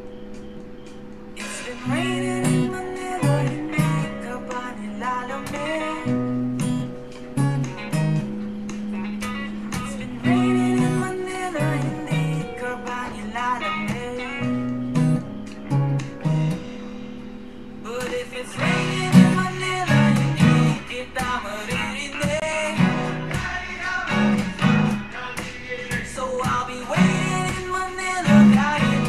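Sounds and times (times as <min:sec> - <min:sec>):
acoustic guitar strumming chords: 0:00.0 - 0:29.0
person singing: 0:01.4 - 0:08.0, 0:09.7 - 0:15.2, 0:17.8 - 0:29.0.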